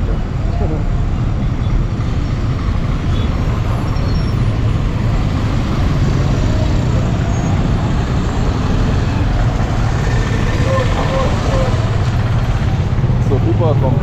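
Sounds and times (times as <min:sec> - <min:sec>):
traffic engines rumbling: 0:00.0 - 0:14.0.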